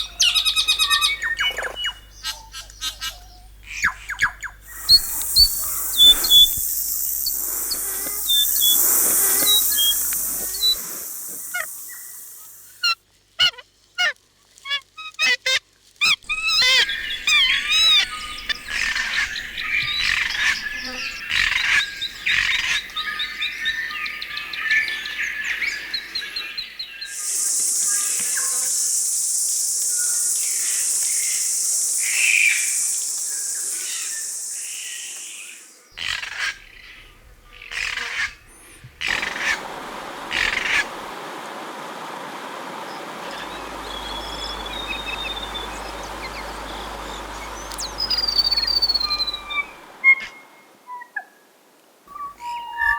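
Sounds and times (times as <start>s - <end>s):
forest birds calling and singing: 0.0s - 12.9s, 16.2s - 51.1s, 52.1s - 52.9s
steady high hiss: 0.0s - 13.0s, 16.2s - 50.9s.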